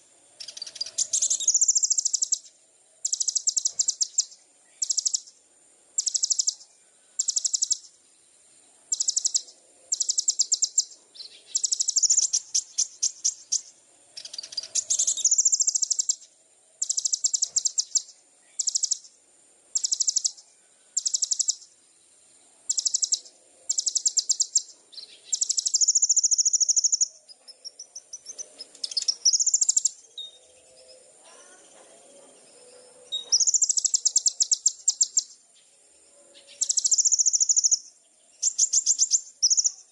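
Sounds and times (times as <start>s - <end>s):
faint high insect drone: 0.0s - 39.9s
songbird trilling: 0.4s - 5.4s, 6.0s - 8.0s, 8.9s - 21.8s, 22.6s - 35.7s, 36.3s - 39.9s.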